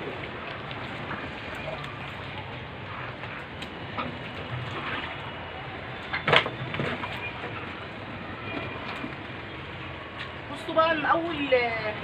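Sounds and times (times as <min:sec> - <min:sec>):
water noise on a rooftop: 0:00.0 - 0:12.0.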